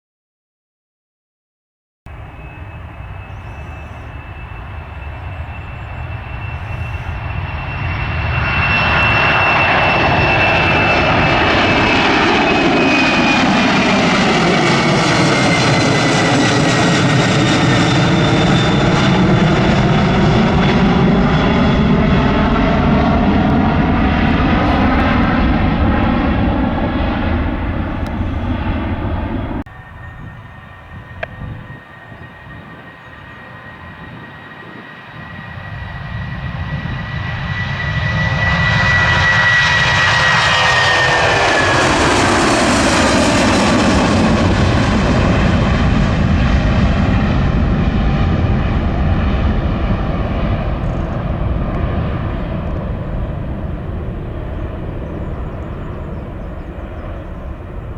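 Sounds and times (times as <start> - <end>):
jet engines passing by: 2.1 - 57.9.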